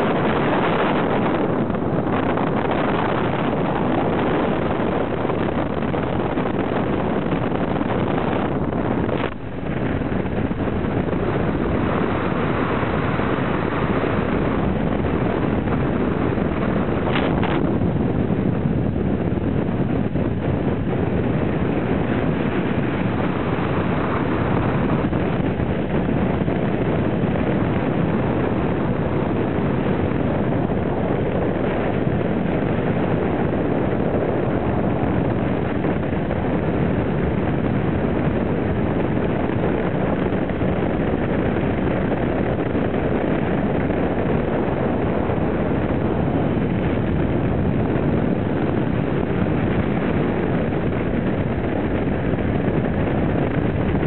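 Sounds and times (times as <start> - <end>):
wind rushing: 0.0 - 54.0.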